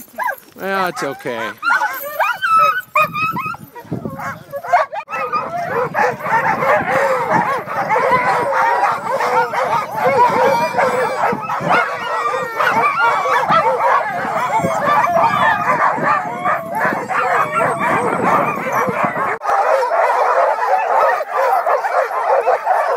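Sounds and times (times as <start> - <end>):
dogs barking and yelping: 0.0 - 22.9.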